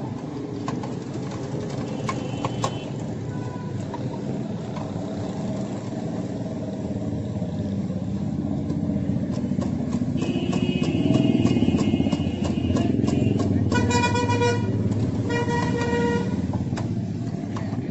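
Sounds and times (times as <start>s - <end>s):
street traffic: 0.0s - 17.9s.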